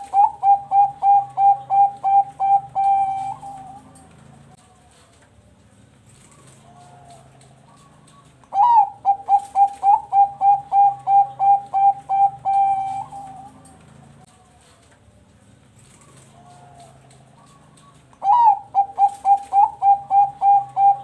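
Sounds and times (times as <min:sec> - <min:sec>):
dove cooing: 0:00.0 - 0:05.2, 0:06.1 - 0:14.8, 0:15.8 - 0:21.0.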